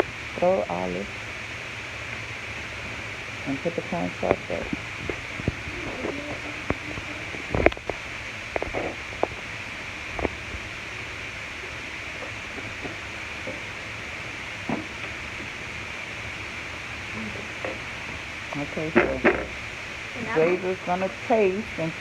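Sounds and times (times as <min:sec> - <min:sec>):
kitchen background hiss: 0:00.0 - 0:22.0.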